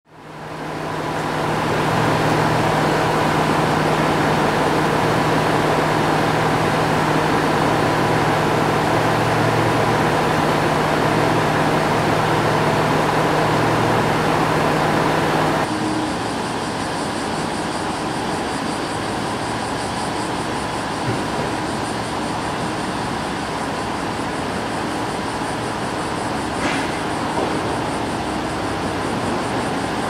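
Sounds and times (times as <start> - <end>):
mechanical drone with hiss: 0.2 - 30.0.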